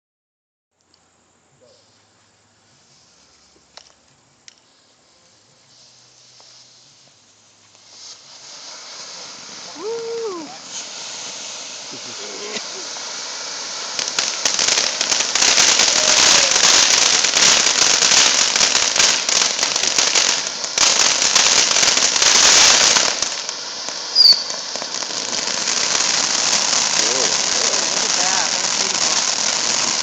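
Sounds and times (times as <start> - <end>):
firework crackling hiss: 0.8 - 30.0.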